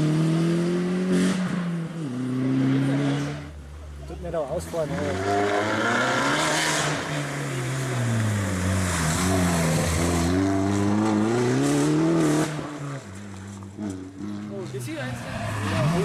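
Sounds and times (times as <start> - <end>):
rally car engine accelerating: 0.0 - 16.0.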